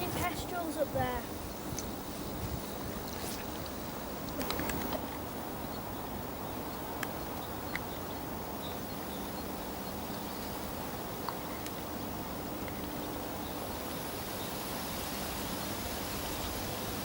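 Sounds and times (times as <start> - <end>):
birds calling: 0.0 - 14.6
steady background hiss: 0.0 - 17.0.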